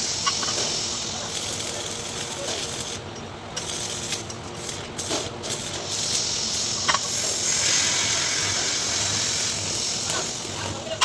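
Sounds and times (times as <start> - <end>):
arc welding crackling hiss: 0.0 - 11.0.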